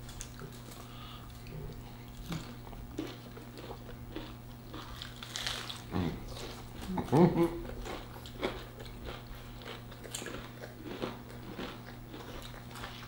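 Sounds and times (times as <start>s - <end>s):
chewing with wet mouth clicks: 0.1s - 13.0s
crunchy bite: 2.2s - 13.0s.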